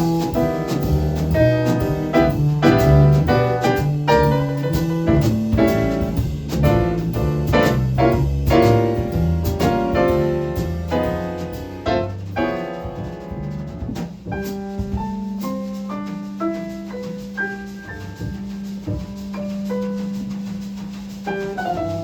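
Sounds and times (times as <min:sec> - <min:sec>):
jazz ballad on piano: 0:00.0 - 0:22.0.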